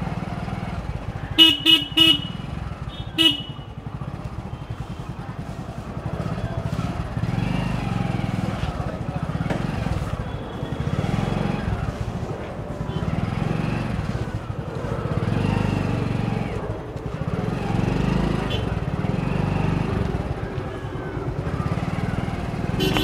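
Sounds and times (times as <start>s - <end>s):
motorcycle engine revving: 0.0s - 23.0s
faint voices: 3.5s - 23.0s.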